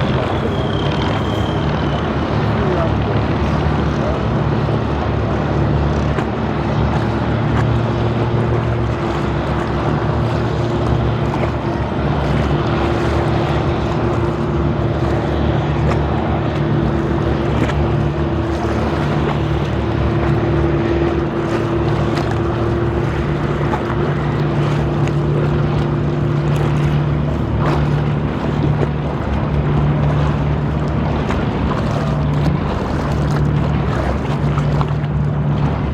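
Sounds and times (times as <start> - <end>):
boat engine droning: 0.0 - 35.9
water washing: 0.0 - 35.9
wind: 0.0 - 35.9.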